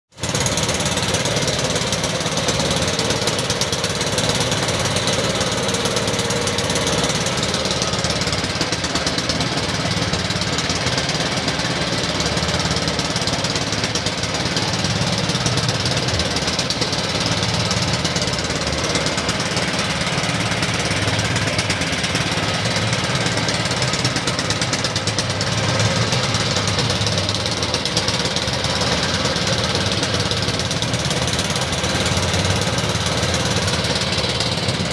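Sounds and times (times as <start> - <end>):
boat engine knocking: 0.1 - 34.9.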